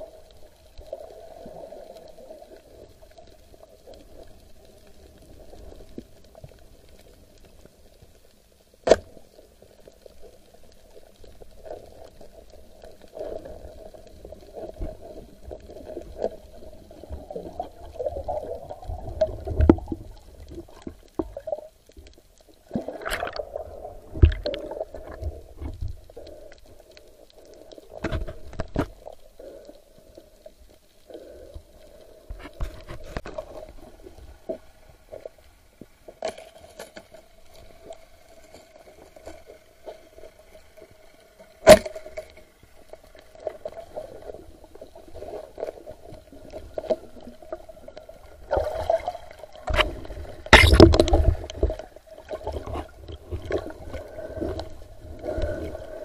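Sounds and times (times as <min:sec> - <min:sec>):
steady underwater hum: 0:00.0 - 0:56.0.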